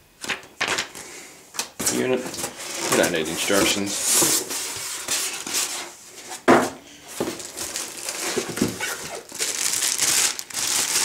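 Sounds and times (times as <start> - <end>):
cardboard and foam packing rustling: 1.8 - 11.0.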